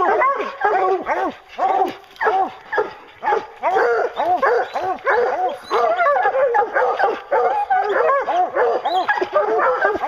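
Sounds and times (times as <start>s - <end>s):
hounds barking: 0.0s - 10.0s.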